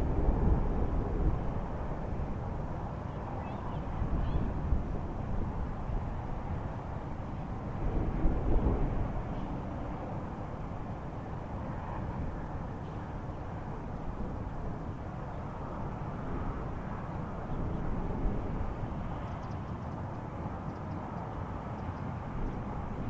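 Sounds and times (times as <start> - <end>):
low rumble from the sky: 0.0 - 23.0.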